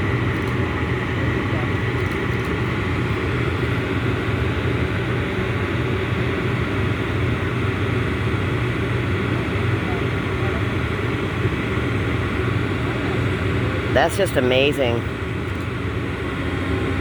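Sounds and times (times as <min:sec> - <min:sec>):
crane engine droning: 0:00.0 - 0:17.0.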